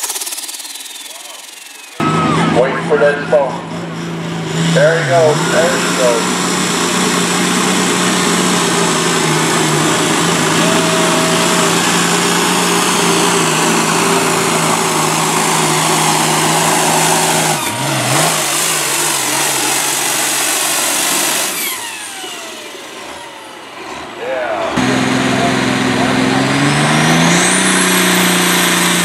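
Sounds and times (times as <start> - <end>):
falling whine: 0.0 - 29.0
tractor diesel engine at full throttle: 0.0 - 29.0.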